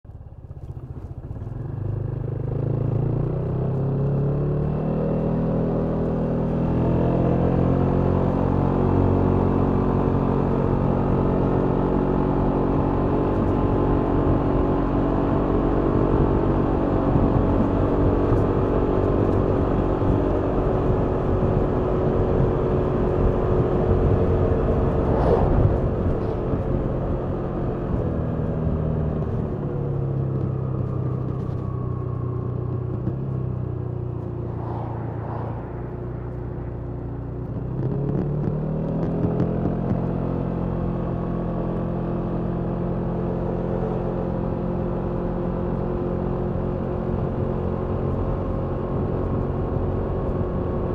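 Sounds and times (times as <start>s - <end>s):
wind and road noise: 0.1s - 50.9s.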